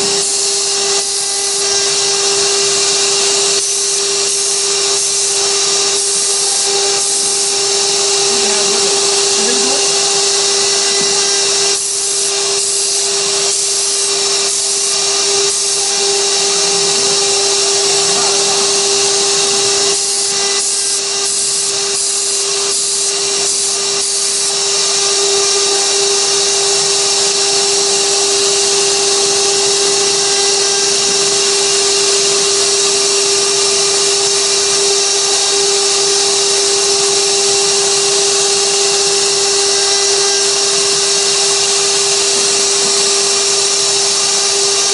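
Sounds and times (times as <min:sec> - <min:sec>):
hissy wood cutting noise: 0:00.0 - 0:44.9
router spindle whining: 0:00.0 - 0:44.9.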